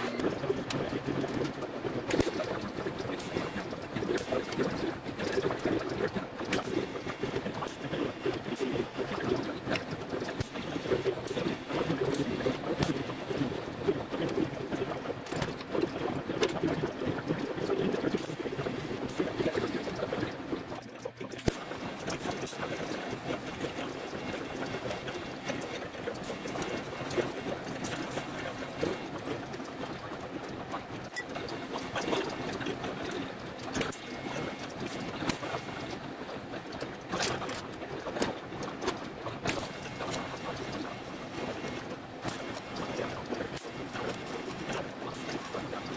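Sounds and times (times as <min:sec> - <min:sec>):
crackling clicks: 0:00.0 - 0:45.9.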